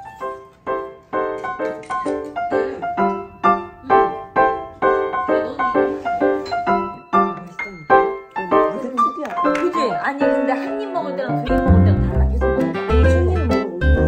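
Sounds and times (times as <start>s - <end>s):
piano playing short chords: 0.0s - 14.0s.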